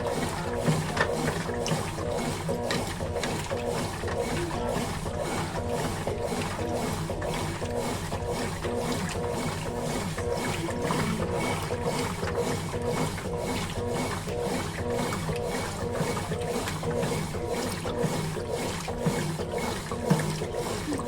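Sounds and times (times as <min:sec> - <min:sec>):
washing machine churning water: 0:00.0 - 0:21.0.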